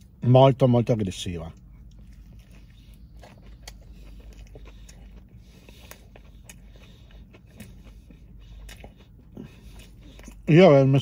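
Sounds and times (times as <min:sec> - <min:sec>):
steady low rumble: 0:00.0 - 0:11.0
man chewing: 0:01.3 - 0:11.0.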